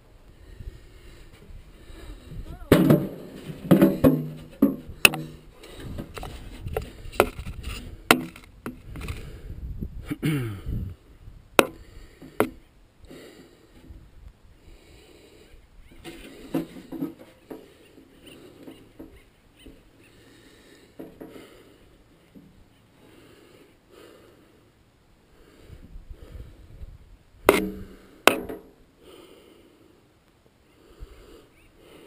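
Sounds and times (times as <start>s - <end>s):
breathing: 0.3s - 2.5s, 4.9s - 7.3s, 8.9s - 9.7s, 10.4s - 14.0s, 14.6s - 26.9s, 27.8s - 32.0s.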